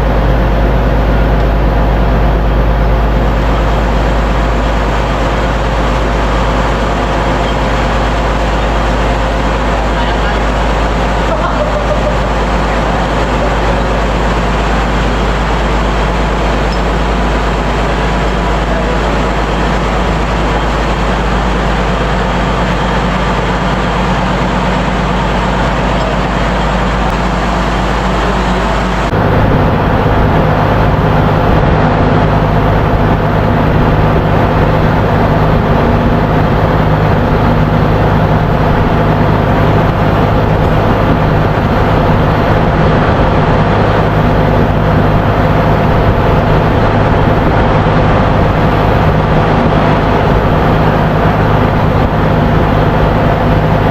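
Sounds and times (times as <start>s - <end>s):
ship engine room machinery drone: 0.0s - 53.9s.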